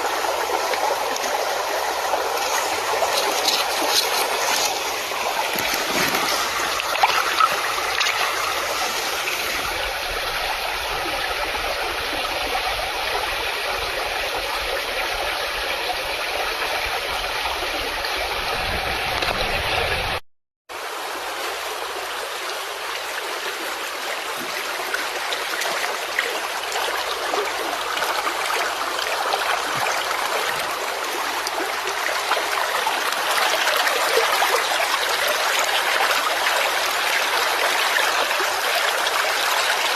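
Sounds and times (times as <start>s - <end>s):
river water over stones: 0.0s - 19.8s, 20.7s - 39.9s.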